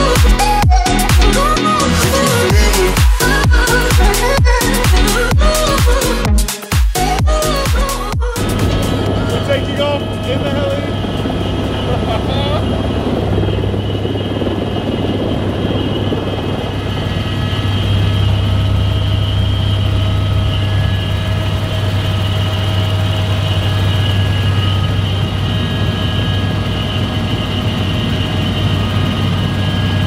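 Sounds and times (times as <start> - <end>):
helicopter rotor drone: 0.0 - 30.0
high-pitched whines: 0.0 - 30.0.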